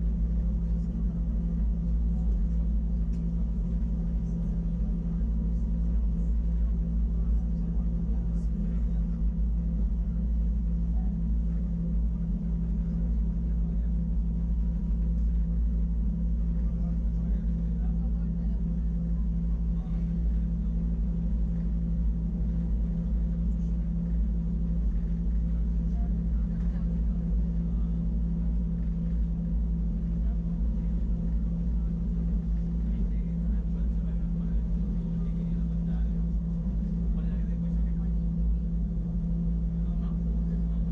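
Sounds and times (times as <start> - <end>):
motor hum: 0.0 - 40.9
train low rumble: 0.0 - 40.9.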